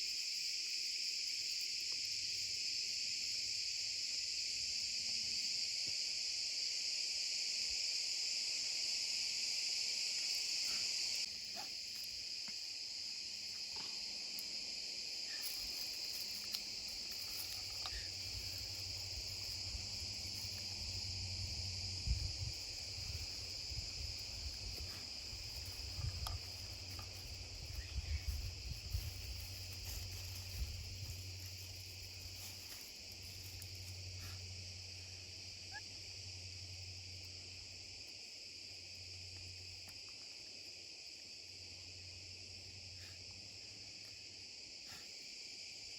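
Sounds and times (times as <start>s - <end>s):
crickets chirring: 0.0s - 45.9s.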